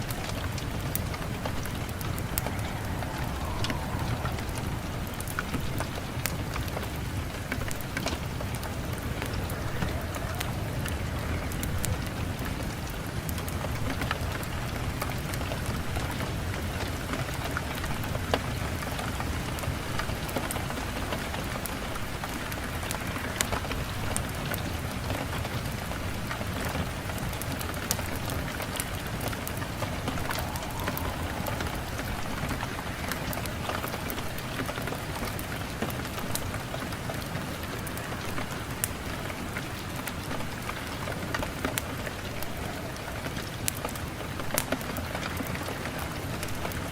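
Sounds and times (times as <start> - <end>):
sharp clicks of raindrops: 0.0 - 46.9
steady rain hiss: 0.0 - 46.9.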